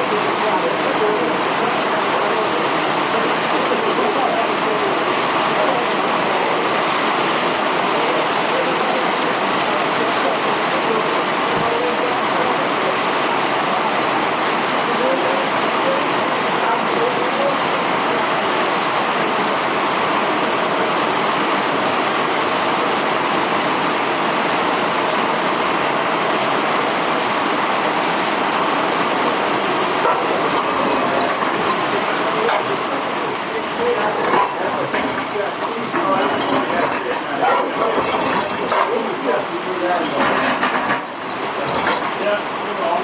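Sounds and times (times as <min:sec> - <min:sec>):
torrential rain pouring: 0:00.0 - 0:43.0.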